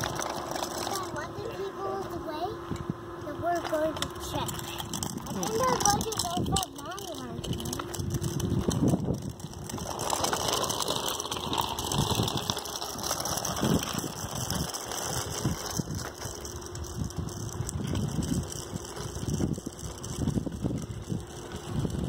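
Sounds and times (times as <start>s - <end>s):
bicycle frame rattling: 0.0s - 2.1s, 3.5s - 22.0s
bicycle freewheel ratcheting: 0.0s - 2.4s, 3.4s - 22.0s.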